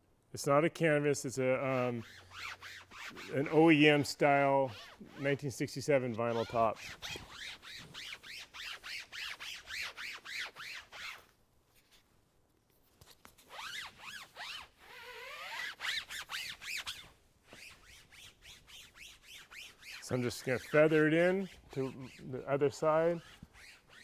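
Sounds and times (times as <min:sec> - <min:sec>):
foam pad squeaky rubbing on vinyl: 0:01.6 - 0:12.0, 0:13.4 - 0:24.0.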